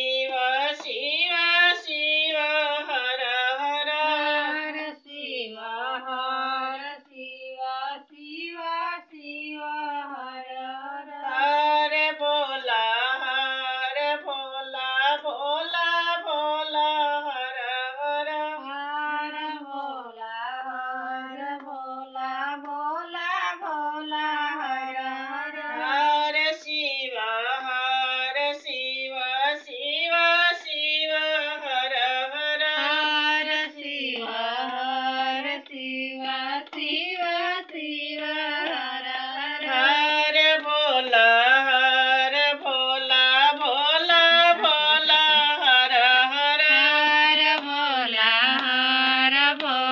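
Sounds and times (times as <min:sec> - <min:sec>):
woman singing devotional song: 0:00.0 - 0:49.9.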